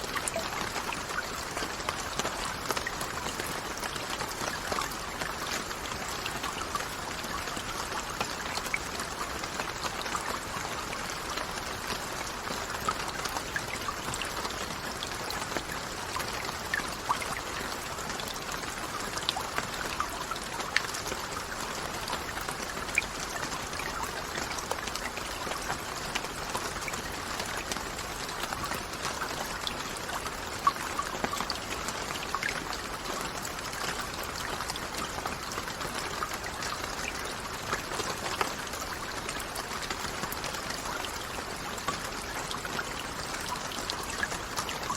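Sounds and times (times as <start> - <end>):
raindrops ticking: 0.0 - 44.9
steady rain hiss: 0.0 - 44.9.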